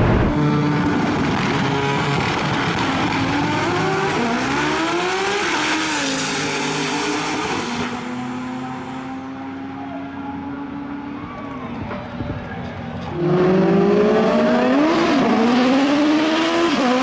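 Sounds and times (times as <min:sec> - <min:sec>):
drag racing cars accelerating: 0:00.0 - 0:11.2, 0:12.4 - 0:17.0.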